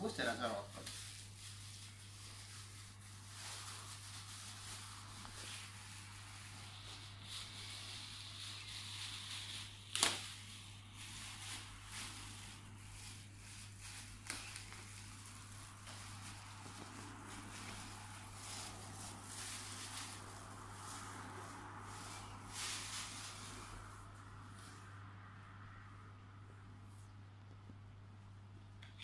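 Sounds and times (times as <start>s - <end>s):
plastic bags crinkling: 0.0s - 24.3s.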